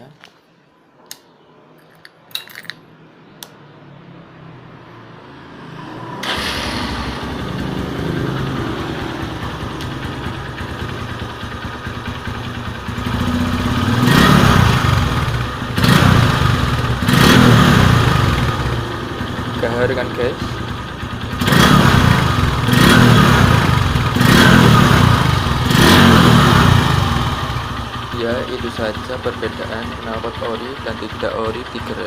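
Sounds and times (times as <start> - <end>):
motorcycle engine idling and revving: 5.0 - 32.0.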